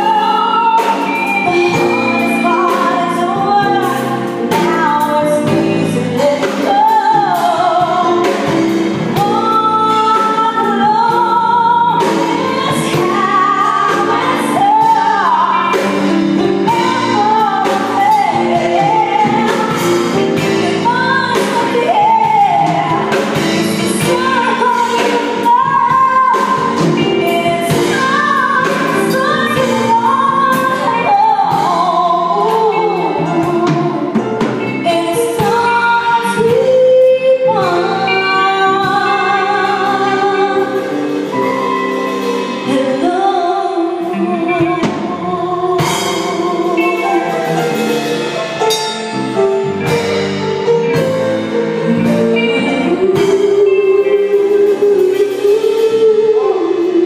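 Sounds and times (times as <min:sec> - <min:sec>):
woman singing: 0:00.0 - 0:48.4, 0:50.8 - 0:57.0
live band playing: 0:00.0 - 0:57.0.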